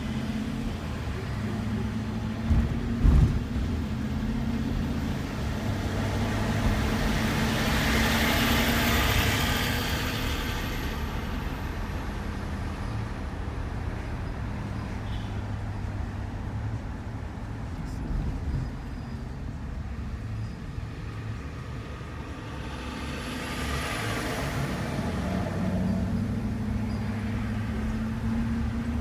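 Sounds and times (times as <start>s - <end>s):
low engine hum: 0.0s - 29.0s
van road noise: 0.0s - 29.0s.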